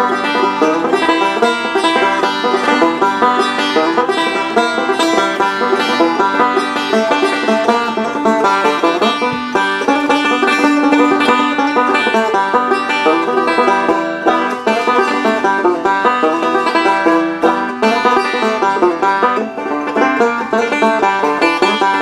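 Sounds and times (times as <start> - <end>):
banjo fingerpicking: 0.0 - 22.0.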